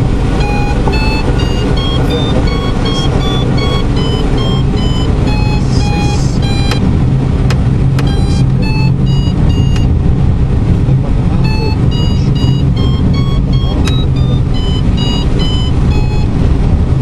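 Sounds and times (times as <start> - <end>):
variometer beeping: 0.0 - 10.1, 11.4 - 17.0
airflow rushing past cockpit: 0.0 - 17.0.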